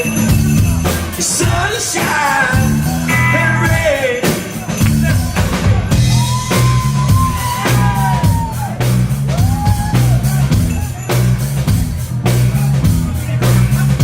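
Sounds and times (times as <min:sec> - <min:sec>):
bass groove: 0:00.0 - 0:14.0
drum kit: 0:00.0 - 0:14.0
funk band playing: 0:00.0 - 0:14.0.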